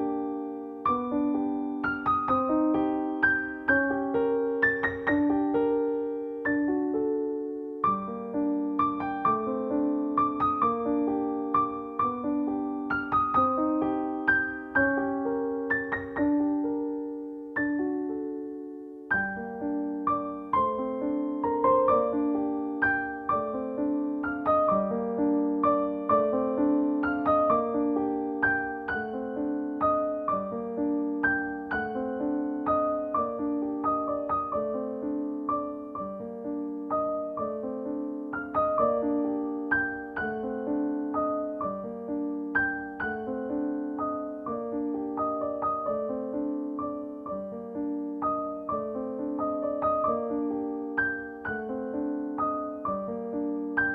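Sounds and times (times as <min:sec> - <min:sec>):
gentle piano music: 0:00.0 - 0:53.9.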